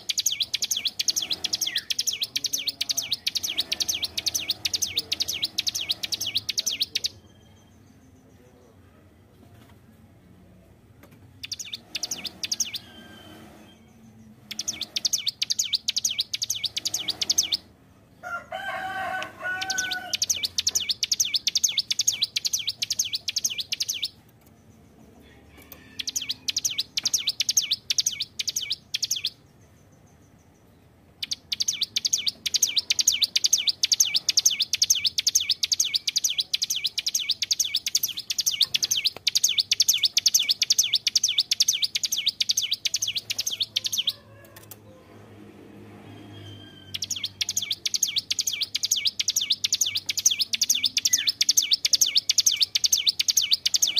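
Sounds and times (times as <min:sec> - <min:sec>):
bird rapid high chirps: 0:00.0 - 0:08.4, 0:11.4 - 0:17.7, 0:19.5 - 0:25.0, 0:25.6 - 0:44.2, 0:46.2 - 0:53.9.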